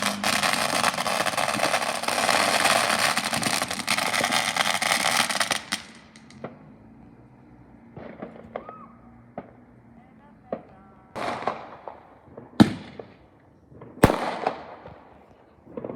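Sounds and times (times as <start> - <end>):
faint fireworks pops: 0.0 - 6.8, 7.8 - 15.9
fireworks crackling: 0.0 - 15.9.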